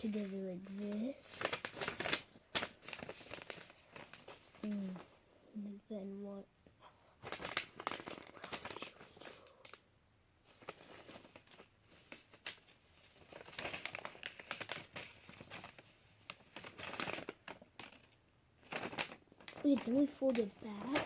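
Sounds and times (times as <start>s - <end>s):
paper crinkling and rustling: 0.0s - 5.2s, 7.2s - 9.8s, 10.4s - 21.0s.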